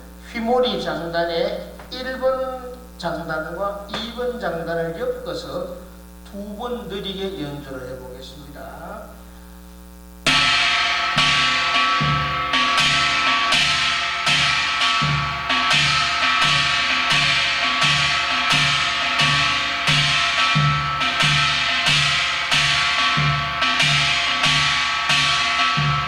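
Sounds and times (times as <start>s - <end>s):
hourglass drum rhythm: 0.6s - 7.4s, 10.2s - 26.0s.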